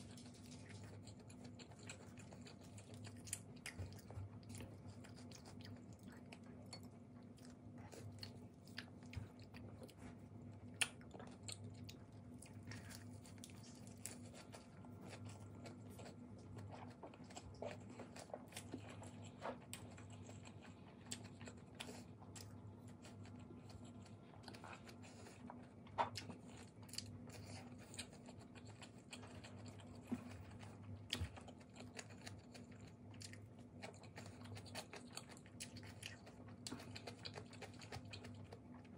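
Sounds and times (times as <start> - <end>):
faint chewing: 0.0 - 38.9
low steady hum: 0.0 - 38.9.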